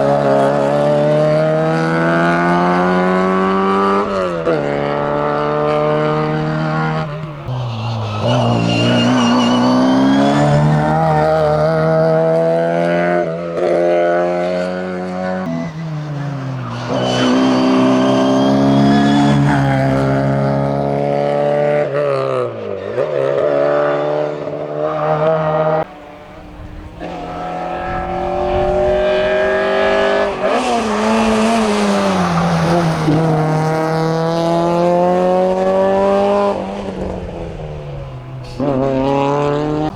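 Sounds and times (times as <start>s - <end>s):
car engine revving hard: 0.0s - 39.9s
rally car engine revving: 0.0s - 39.9s.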